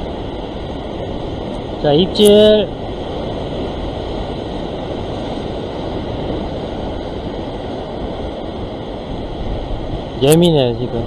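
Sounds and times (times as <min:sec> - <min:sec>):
heavy surf over rocks: 0:00.0 - 0:11.0.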